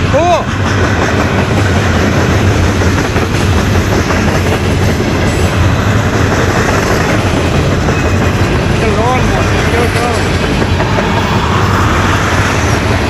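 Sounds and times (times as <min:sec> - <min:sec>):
freight train wheels rumbling on track: 0:00.0 - 0:13.0.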